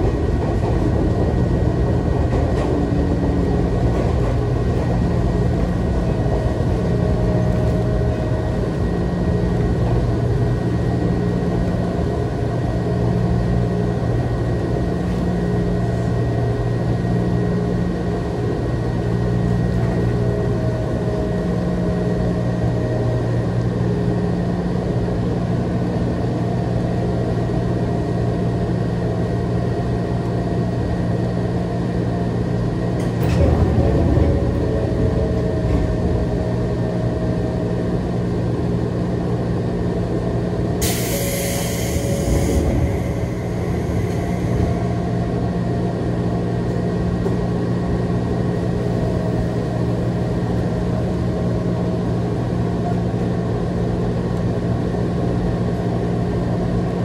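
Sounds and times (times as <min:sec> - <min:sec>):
train equipment low hum: 0:00.0 - 0:57.0.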